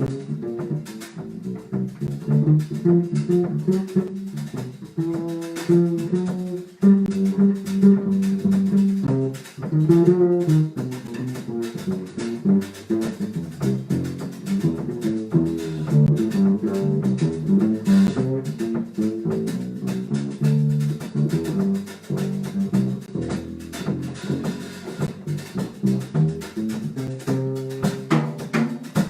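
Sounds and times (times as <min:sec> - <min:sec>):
walking bass line: 0:00.0 - 0:29.0.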